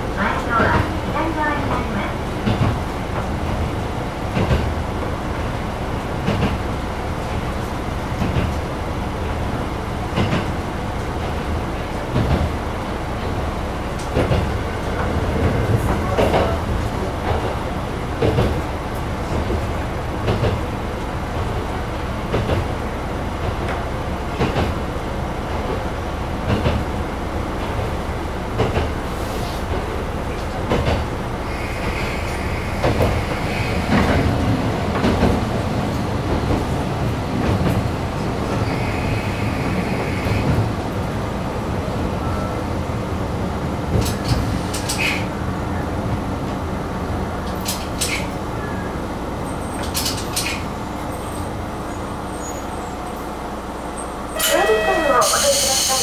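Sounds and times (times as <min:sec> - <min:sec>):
train rumble from inside: 0:00.0 - 0:56.0.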